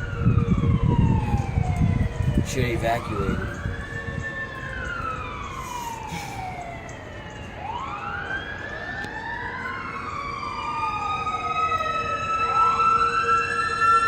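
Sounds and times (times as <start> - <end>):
warning sirens wailing: 0.0 - 14.0.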